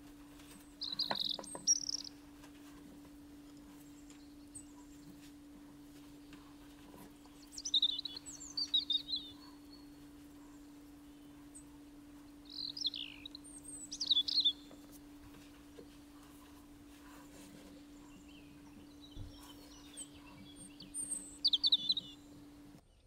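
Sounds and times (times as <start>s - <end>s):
steady low hum: 0.0s - 23.0s
songbird twittering: 0.4s - 2.3s, 3.7s - 22.8s.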